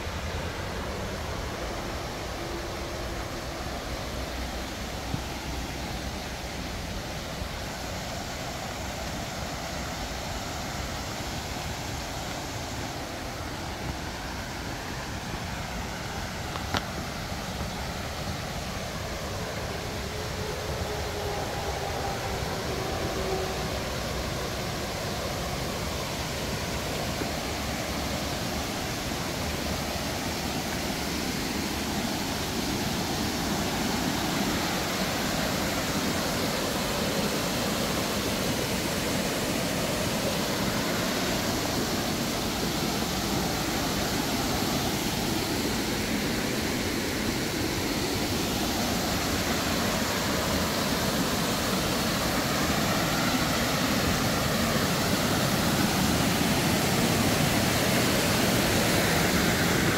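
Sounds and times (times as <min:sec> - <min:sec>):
waterfall and rapids rushing: 0:00.0 - 0:59.9.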